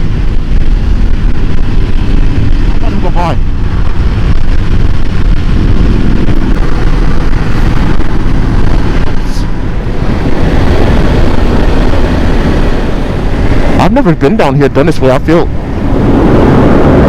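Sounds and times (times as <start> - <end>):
motorcycle engine running: 0.0 - 14.0
wind rumble on microphone: 0.0 - 17.0.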